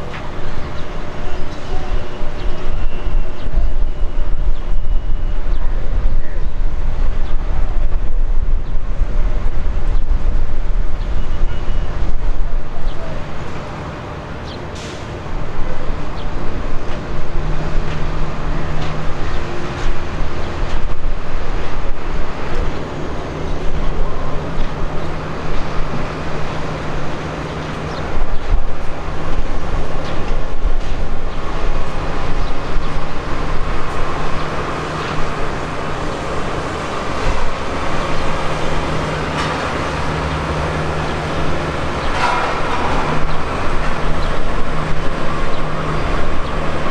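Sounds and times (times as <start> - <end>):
jet engines rumbling: 0.0 - 46.9.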